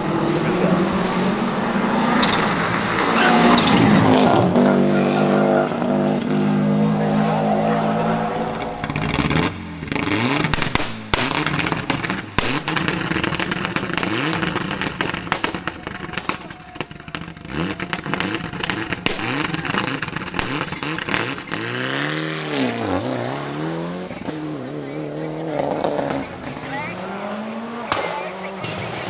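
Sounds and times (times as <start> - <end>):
exhaust bangs and crackles: 0.0 - 29.0
rally car engine revving: 0.0 - 29.0.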